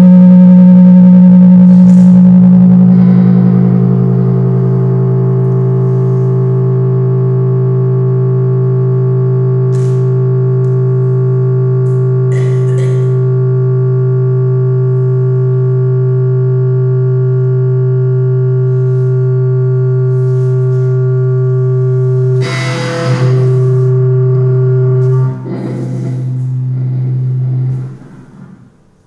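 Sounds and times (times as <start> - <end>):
distorted drone music: 0.0 - 28.8.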